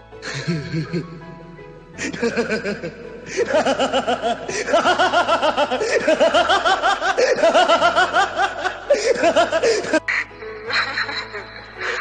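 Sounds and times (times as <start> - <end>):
man laughing loudly: 0.2 - 1.2, 2.0 - 12.0.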